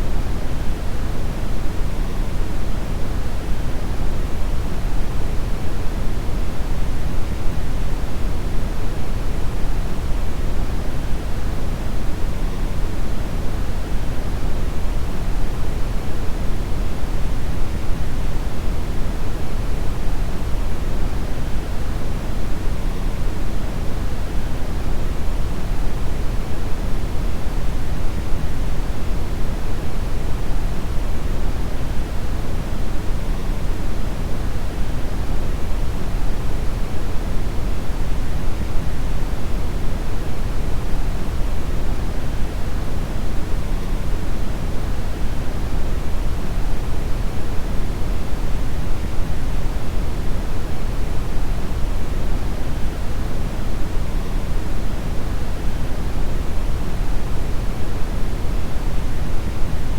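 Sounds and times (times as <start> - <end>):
brown noise rumbling hiss: 0.0 - 59.9.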